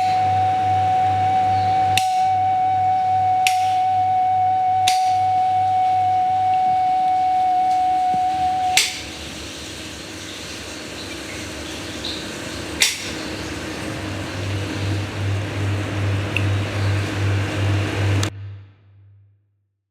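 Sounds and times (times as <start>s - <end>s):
steady hiss: 0.0s - 18.3s
pulsing low hum: 0.0s - 19.4s.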